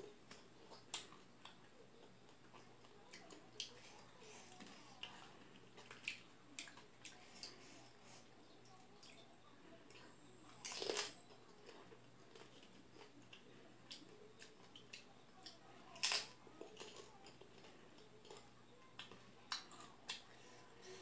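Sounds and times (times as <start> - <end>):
chewing and mouth clicks: 0.2 - 9.2, 9.9 - 20.3.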